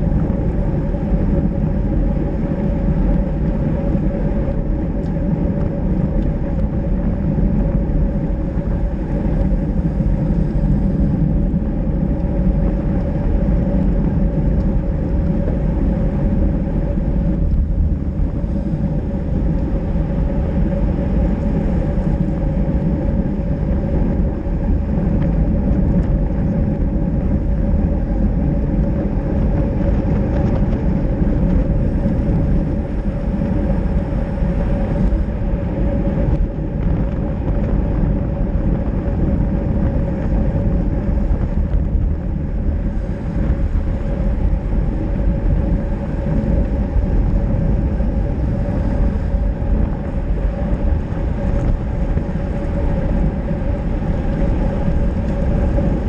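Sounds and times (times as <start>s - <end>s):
bicycle tyres on wet asphalt: 0.0s - 56.0s
constant hum: 0.0s - 56.0s
wind noise: 0.0s - 56.0s.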